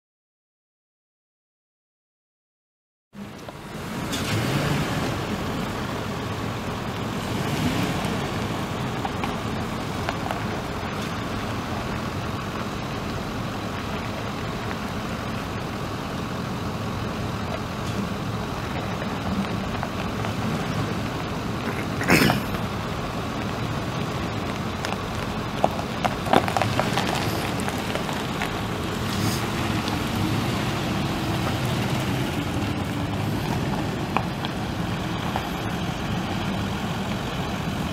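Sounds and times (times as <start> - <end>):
truck engine idling: 3.2 - 37.9.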